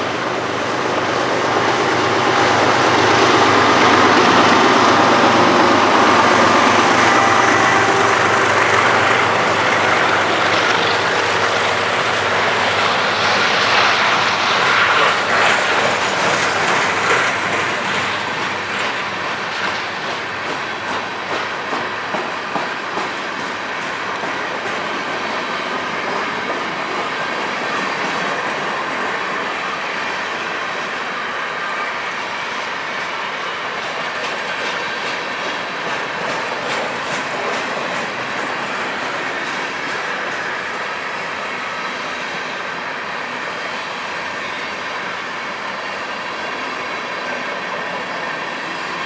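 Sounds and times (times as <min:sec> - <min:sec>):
train wheels clacking over rail joints: 0:00.4 - 0:29.7, 0:32.6 - 0:45.6.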